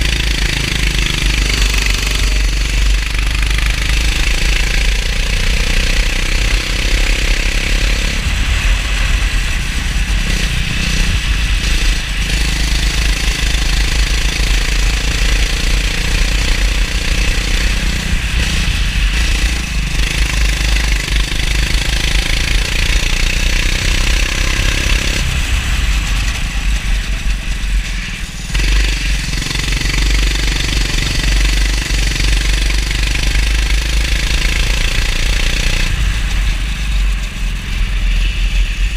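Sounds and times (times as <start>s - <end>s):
heavy low rumble: 0.0s - 38.9s
kart engine revving: 0.0s - 38.9s.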